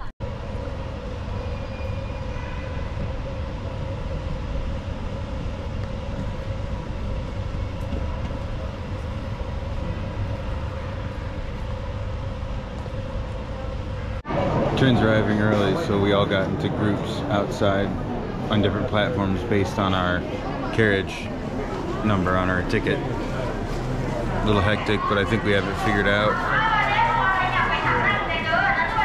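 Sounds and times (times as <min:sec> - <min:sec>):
train rumbling with humming tone: 0:00.0 - 0:29.0.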